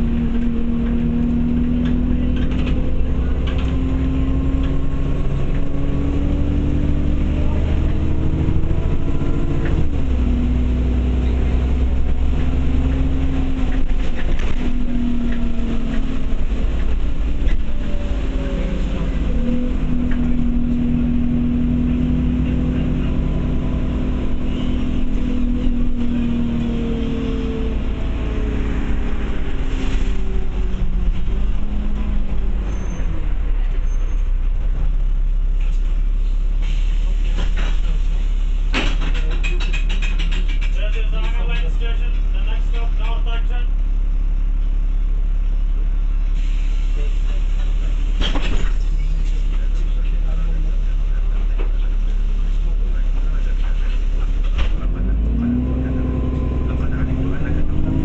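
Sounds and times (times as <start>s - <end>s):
bus engine and drivetrain: 0.0s - 58.0s.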